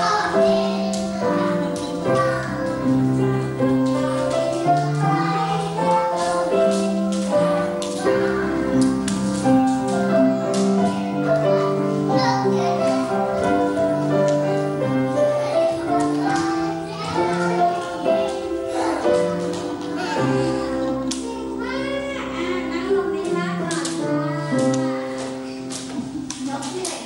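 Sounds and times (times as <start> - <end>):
grand piano playing lively tune: 0.0 - 27.0.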